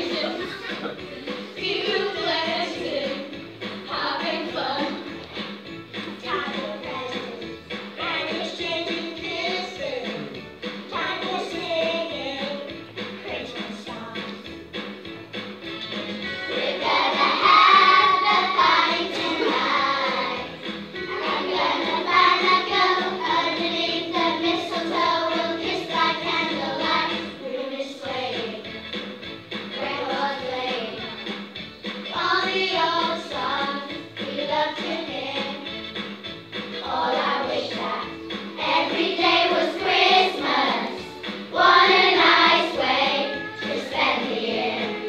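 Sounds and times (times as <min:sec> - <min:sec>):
children's choir singing: 0:00.0 - 0:05.3, 0:06.1 - 0:12.7, 0:16.5 - 0:28.8, 0:29.6 - 0:35.7, 0:36.6 - 0:45.0.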